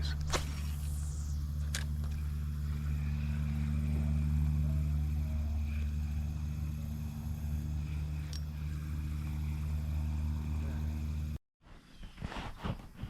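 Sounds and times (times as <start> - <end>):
low mechanical hum: 0.0 - 11.4.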